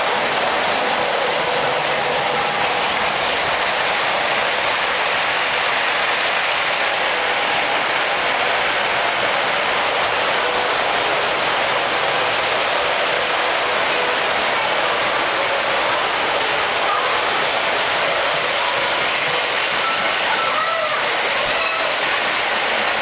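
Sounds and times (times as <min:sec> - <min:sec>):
model trains rattling on tracks: 0:00.0 - 0:23.0.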